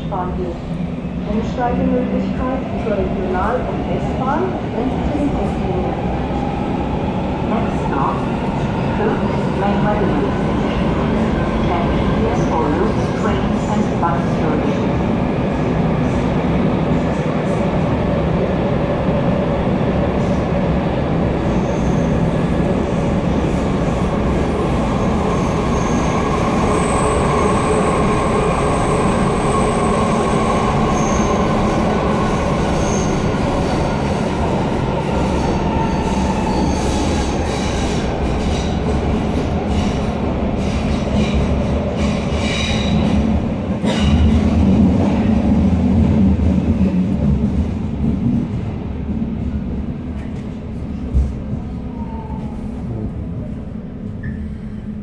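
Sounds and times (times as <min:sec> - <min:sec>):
train wheel and rail rumble: 0:00.0 - 0:55.0.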